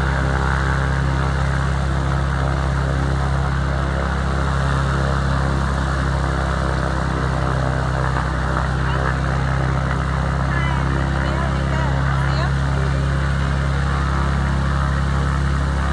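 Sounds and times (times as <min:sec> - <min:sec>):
propeller airplane engine humming: 0:00.0 - 0:15.9.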